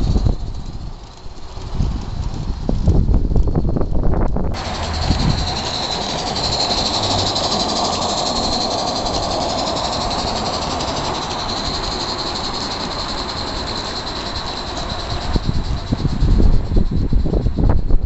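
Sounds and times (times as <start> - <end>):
model steam locomotive running: 0.0 - 18.0.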